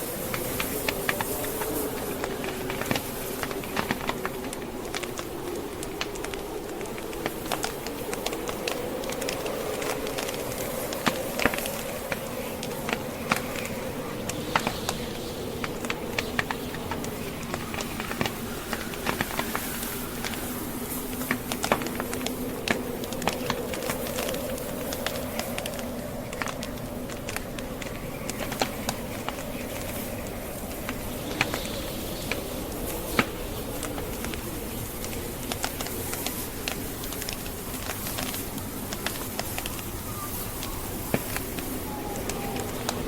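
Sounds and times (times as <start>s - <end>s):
wind howling: 0.0s - 43.0s
wood fire crackling and popping: 0.0s - 43.0s.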